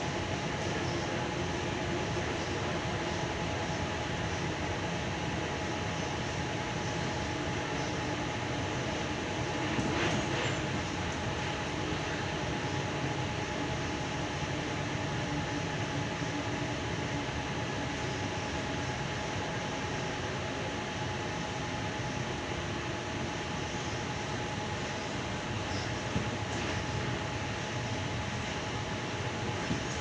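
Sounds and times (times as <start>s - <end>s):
constant train whine: 0.0s - 30.0s.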